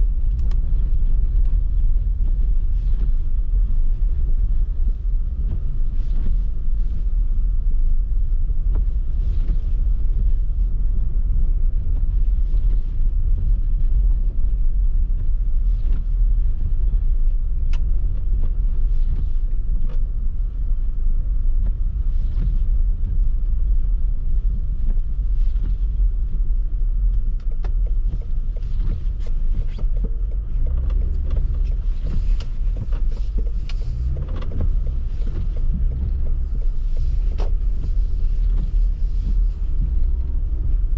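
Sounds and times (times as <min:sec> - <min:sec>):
car engine and tyres rumbling: 0:00.0 - 0:40.9
faint ticks and swishes: 0:00.0 - 0:40.9.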